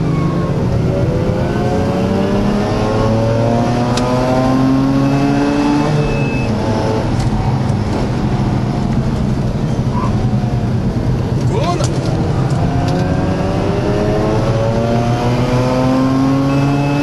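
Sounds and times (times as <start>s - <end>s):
car engine accelerating: 0.0s - 17.0s
road and wind noise: 0.0s - 17.0s.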